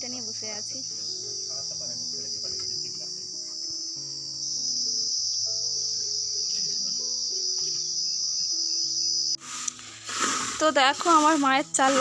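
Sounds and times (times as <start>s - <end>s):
high-pitched insect chorus: 0.0s - 12.0s
soft music with low notes: 0.0s - 12.0s.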